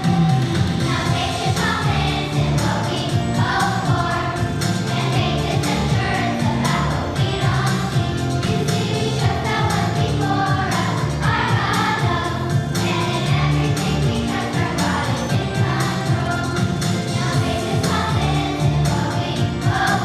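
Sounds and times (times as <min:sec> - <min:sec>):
group singing with band: 0:00.0 - 0:20.0.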